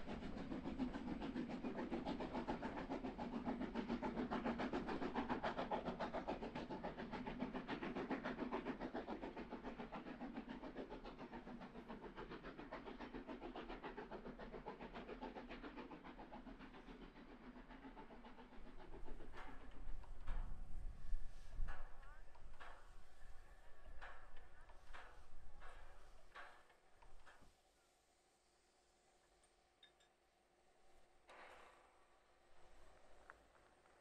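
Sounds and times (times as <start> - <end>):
steam locomotive exhaust beating: 0.0 - 27.4.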